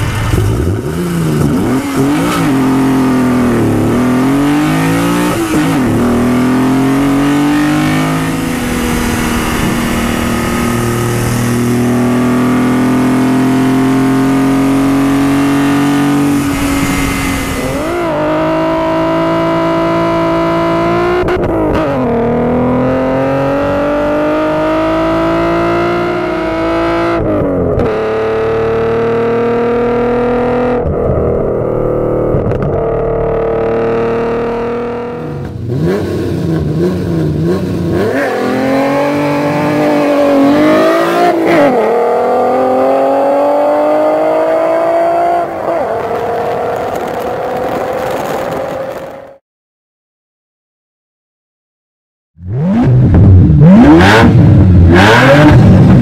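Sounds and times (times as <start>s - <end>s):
car engine revving through gears: 0.0s - 49.4s, 52.4s - 56.0s.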